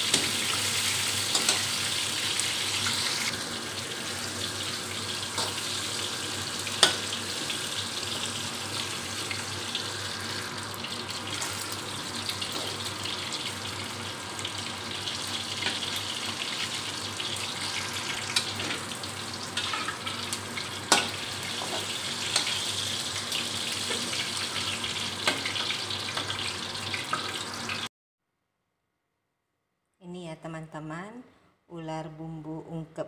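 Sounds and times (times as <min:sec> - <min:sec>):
meat sizzling in oil: 0:00.0 - 0:27.9.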